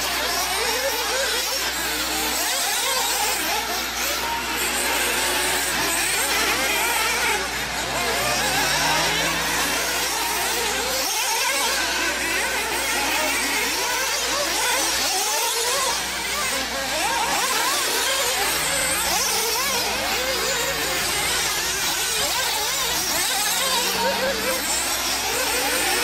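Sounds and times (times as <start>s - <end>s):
rc buggy engines revving: 0.0s - 26.0s.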